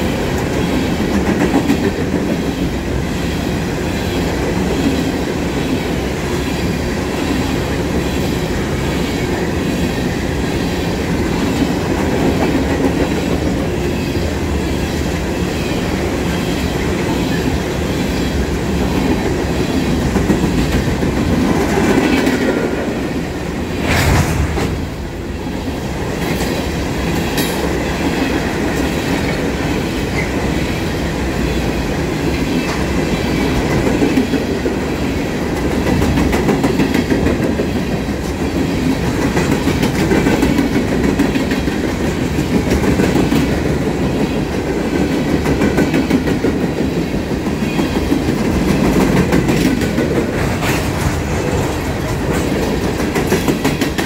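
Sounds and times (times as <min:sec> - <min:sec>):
clickety-clack over rail joints: 0:00.0 - 0:25.0, 0:25.6 - 0:54.0
train wheels rumbling on rail: 0:00.0 - 0:54.0.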